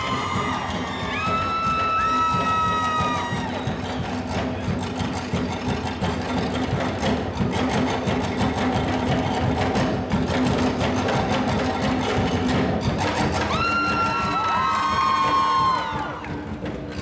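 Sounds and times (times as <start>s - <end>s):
rapid wooden slit drums: 0.0s - 17.0s.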